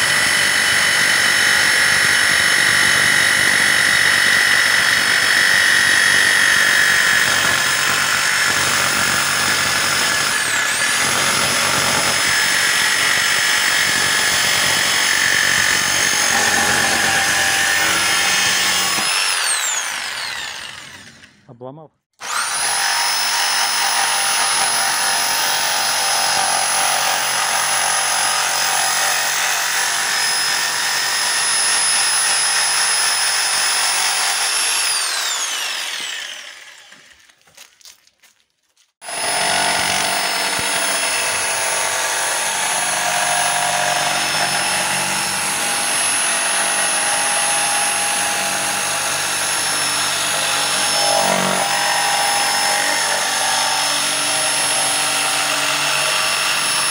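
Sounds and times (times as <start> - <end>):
jigsaw sawing wood: 0.0 - 21.4, 22.2 - 37.6, 38.9 - 56.9.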